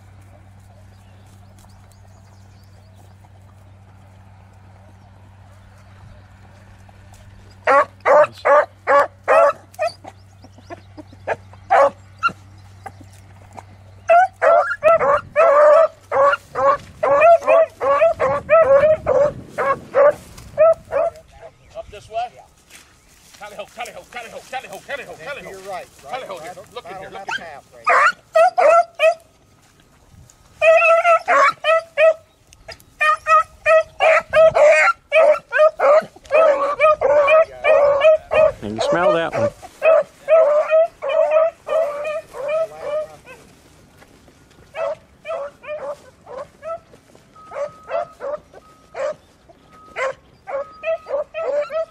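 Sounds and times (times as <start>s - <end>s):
hounds baying: 0.0s - 21.6s, 23.2s - 29.7s, 30.3s - 51.9s.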